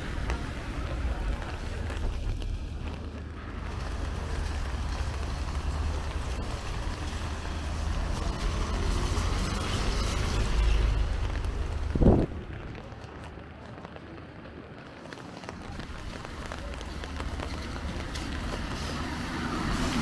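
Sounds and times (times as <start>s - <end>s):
vehicle passing on wet street: 0.0s - 20.0s.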